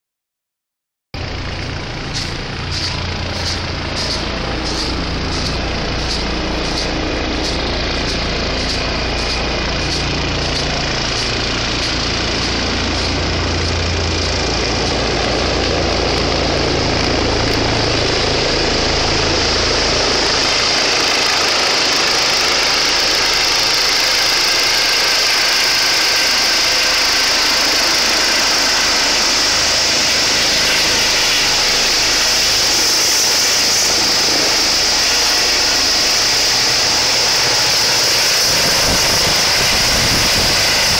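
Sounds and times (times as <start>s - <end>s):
helicopter rotor and turbine: 1.2s - 40.9s
high turbine whine: 1.2s - 40.9s.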